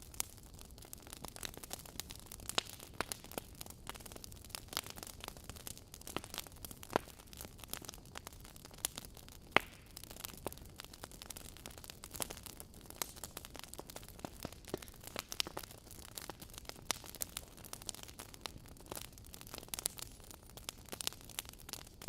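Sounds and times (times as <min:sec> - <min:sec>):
logs crackling in a fireplace: 0:00.0 - 0:22.0.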